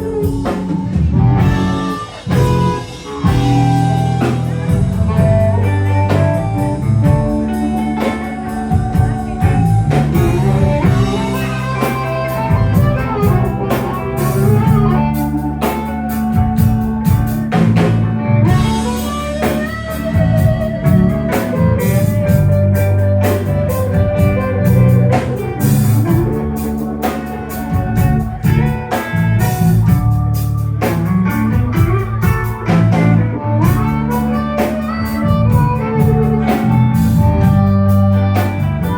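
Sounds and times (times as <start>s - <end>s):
bass: 0.0s - 38.9s
drum kit beat: 0.0s - 38.9s
electric guitar lines: 0.0s - 38.9s.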